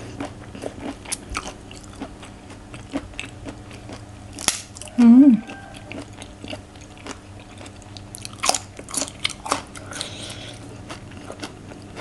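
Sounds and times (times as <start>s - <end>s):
crunching green beans: 0.0s - 12.0s.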